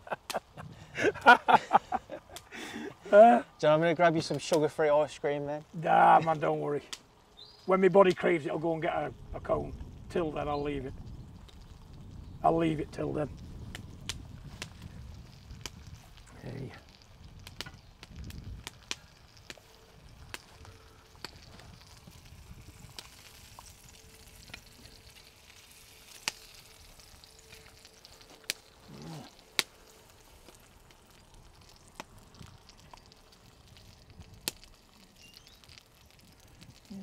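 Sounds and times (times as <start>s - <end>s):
cooking pot sizzling: 0.0s - 37.0s
wood fire crackling and popping: 0.0s - 37.0s.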